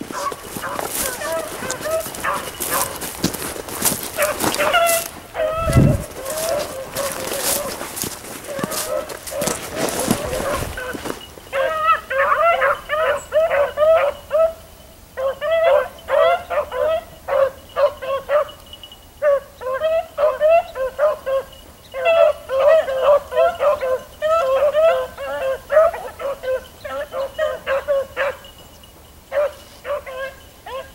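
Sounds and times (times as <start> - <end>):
hounds baying and yelping: 0.0 - 30.9.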